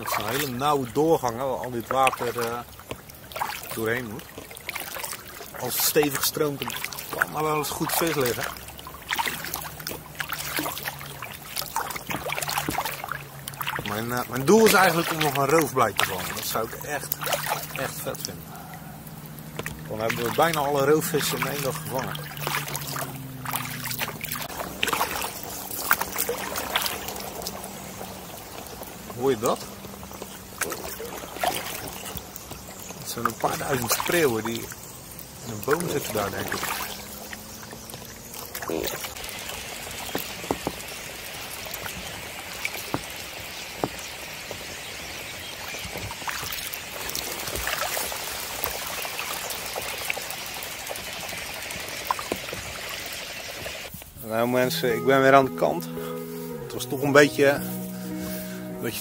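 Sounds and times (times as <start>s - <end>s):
kayak paddle splashing: 0.0s - 59.0s.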